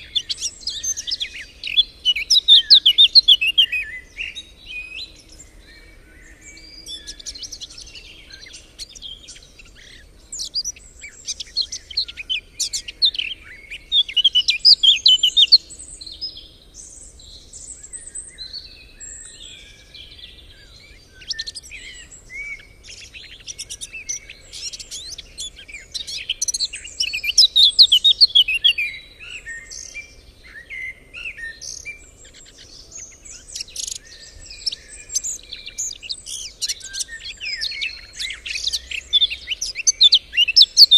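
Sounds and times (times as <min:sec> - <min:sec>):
loud rapid bird trills: 0:00.0 - 0:40.9
songbirds chorus: 0:00.0 - 0:40.9.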